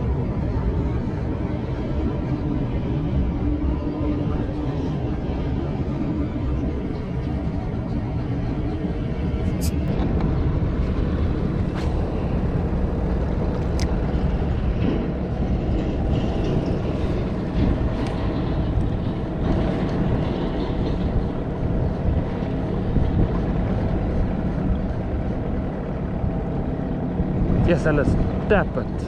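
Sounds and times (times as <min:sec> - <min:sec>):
outboard motor droning: 0:00.0 - 0:29.0.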